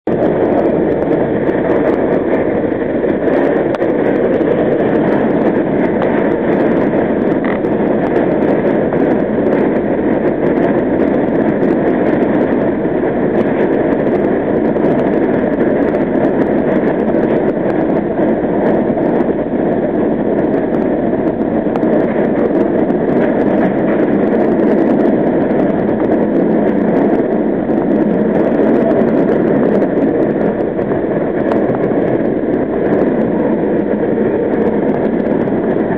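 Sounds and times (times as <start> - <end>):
subway train running in tunnel: 0.0 - 35.9.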